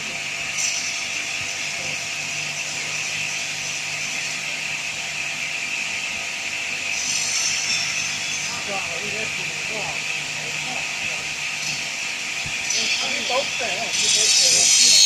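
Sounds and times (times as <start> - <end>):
wood lathe whine: 0.0 - 15.0.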